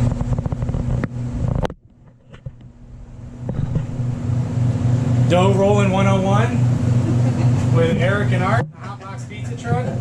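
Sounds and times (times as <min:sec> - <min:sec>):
engine pulsing drone: 0:00.0 - 0:10.0.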